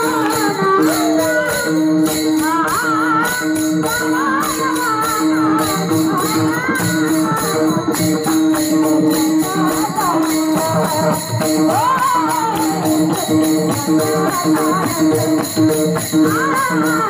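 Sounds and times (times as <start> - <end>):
hand cymbals clashing: 0.0 - 17.0
women singing devotional song: 0.0 - 17.0.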